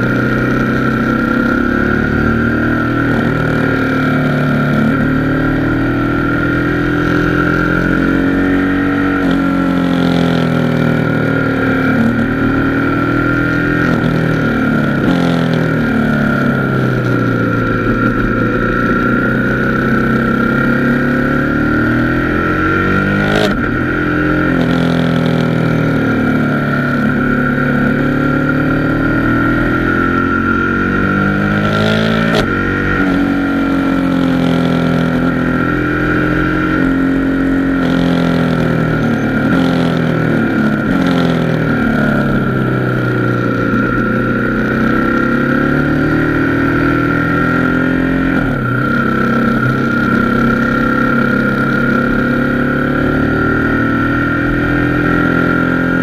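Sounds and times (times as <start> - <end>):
motorcycle engine running: 0.0 - 56.0
steady high whine: 0.0 - 56.0.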